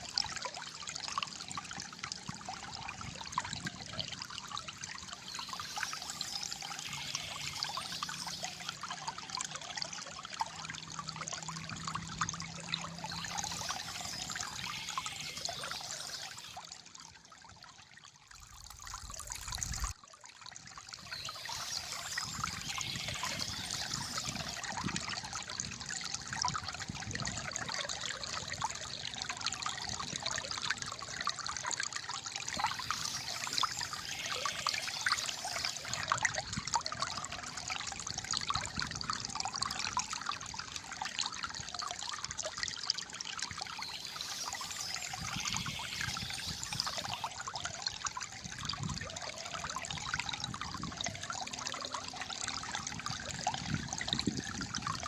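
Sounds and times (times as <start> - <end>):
water trickling and gurgling: 0.0 - 55.0.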